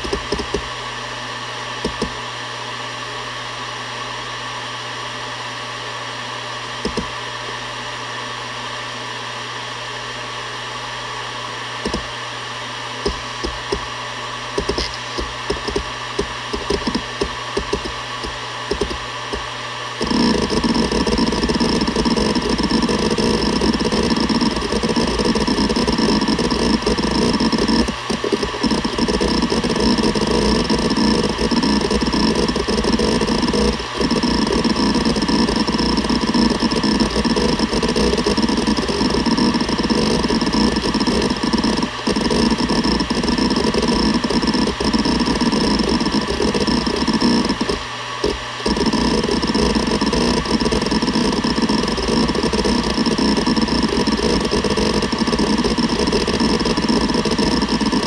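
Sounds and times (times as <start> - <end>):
hard drive seeking: 0.0 - 0.8, 1.8 - 2.2, 6.8 - 7.2, 11.8 - 12.2, 13.0 - 58.0
hard drive spindle whine: 0.0 - 2.3, 6.6 - 8.4, 10.1 - 58.0.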